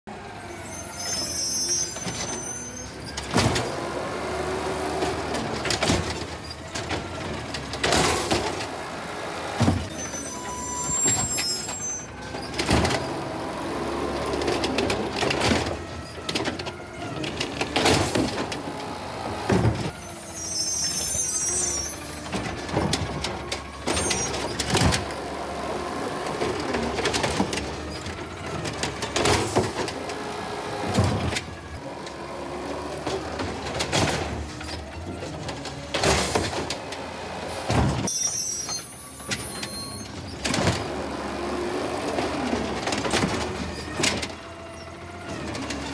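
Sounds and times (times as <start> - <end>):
garbage truck running: 0.1 - 45.9.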